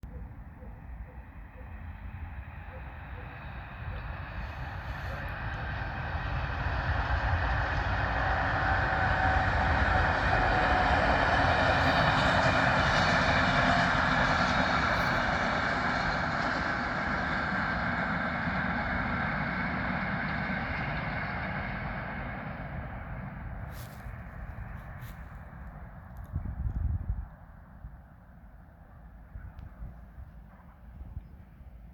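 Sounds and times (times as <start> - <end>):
train passing rumble: 0.1 - 31.9.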